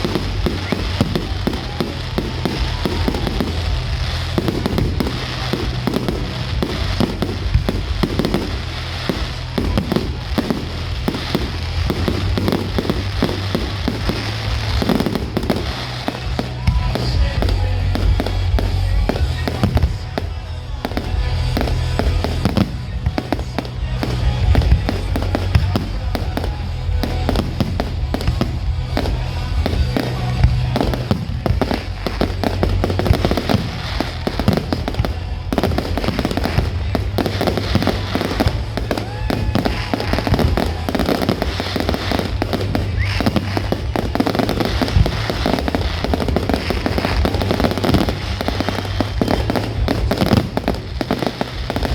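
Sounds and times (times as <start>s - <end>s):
fireworks bangs and bursts: 0.0s - 51.9s
music playing: 0.0s - 51.9s.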